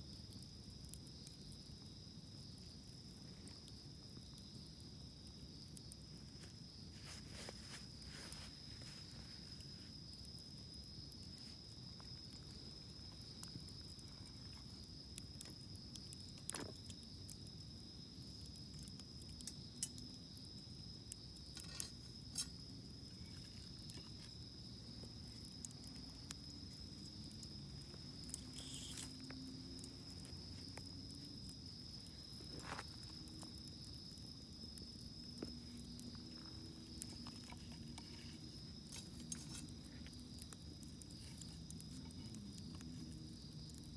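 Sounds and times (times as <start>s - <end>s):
campfire crackling: 0.0s - 43.9s
high insect trill: 0.0s - 43.9s.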